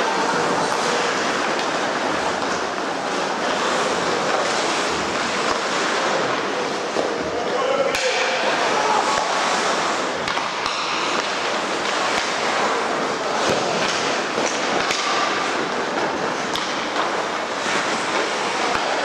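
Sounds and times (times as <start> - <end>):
skates scraping ice: 0.0 - 19.0
hockey sticks and puck clicking: 0.6 - 7.2, 7.9 - 19.0.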